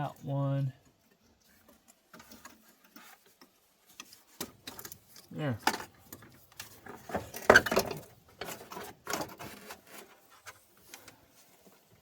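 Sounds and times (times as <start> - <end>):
connectors clicking and rattling: 0.9 - 11.2.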